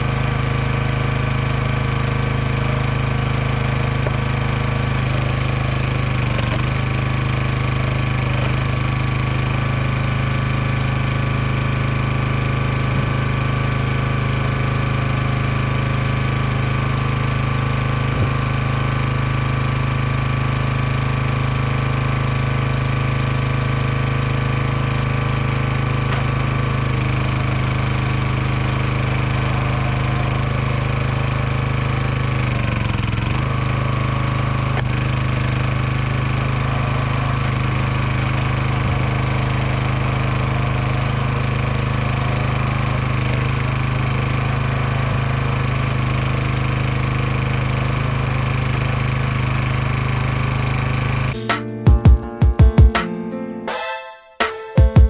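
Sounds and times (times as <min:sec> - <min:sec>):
small engine running: 0:00.0 - 0:53.4.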